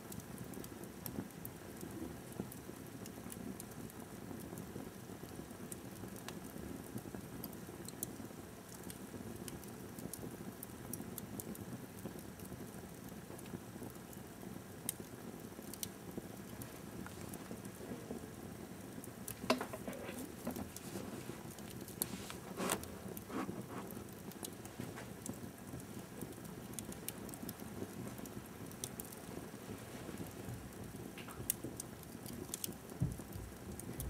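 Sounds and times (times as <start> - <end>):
low steady hiss: 0.0 - 34.0
wood fire crackling and popping: 0.0 - 34.0.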